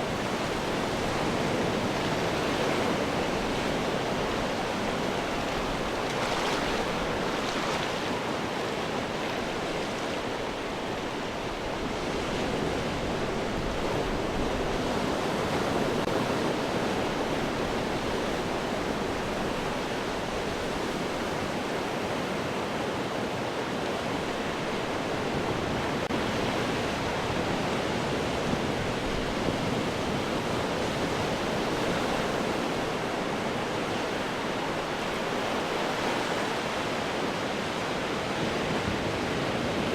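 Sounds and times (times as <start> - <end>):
ocean waves breaking on rocks: 0.0 - 39.9.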